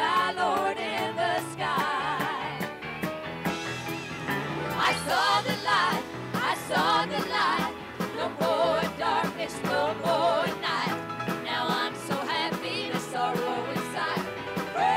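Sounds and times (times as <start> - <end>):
women singing in harmony: 0.0 - 2.7, 4.8 - 14.9
live band playing: 0.1 - 14.9.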